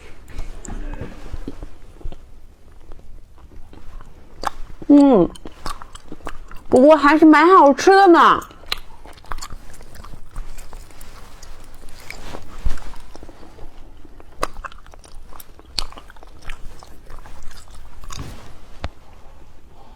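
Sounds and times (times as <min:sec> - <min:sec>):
chewing and biting burger: 0:00.2 - 0:06.7, 0:08.4 - 0:18.4.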